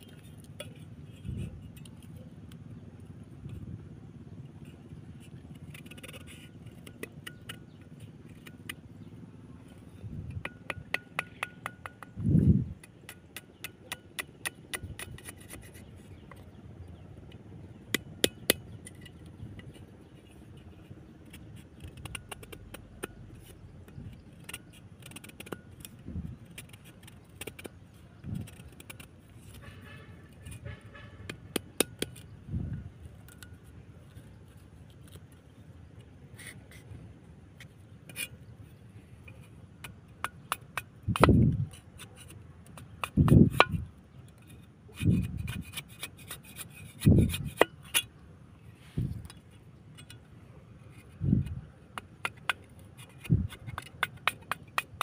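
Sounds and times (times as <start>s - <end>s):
knife scraping bamboo: 0.0s - 3.8s, 4.4s - 55.0s.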